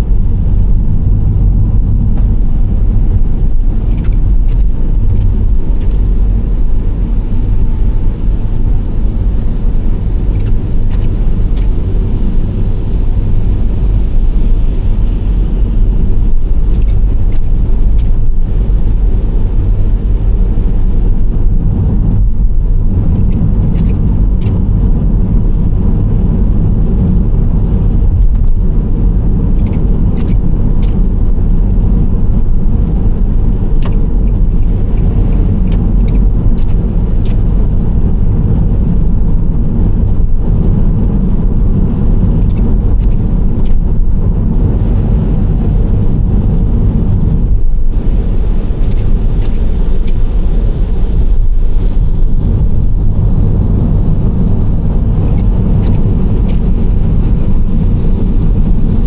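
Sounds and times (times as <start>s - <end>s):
low hum: 0.0s - 59.0s
road and engine noise: 0.0s - 59.0s.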